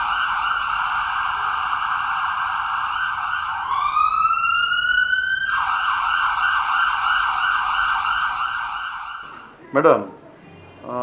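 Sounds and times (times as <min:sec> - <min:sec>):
electronic siren yelp and wail: 0:00.0 - 0:09.3.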